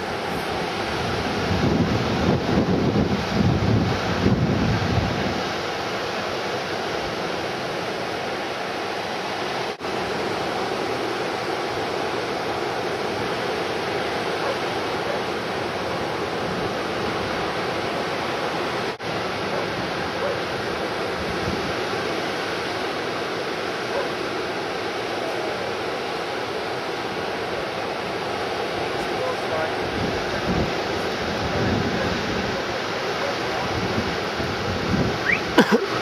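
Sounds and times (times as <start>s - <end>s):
ocean surf breaking: 0.0s - 36.0s.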